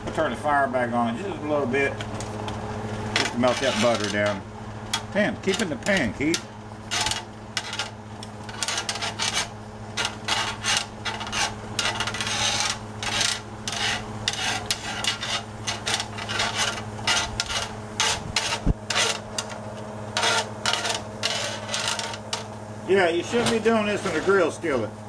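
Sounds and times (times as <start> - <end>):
steady low hum: 0.0 - 25.0
metal tongs scraping skillet: 3.1 - 22.6, 23.2 - 24.7.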